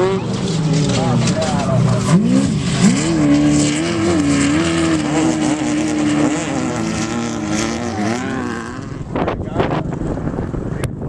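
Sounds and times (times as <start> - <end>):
truck engine revving hard: 0.0 - 9.8.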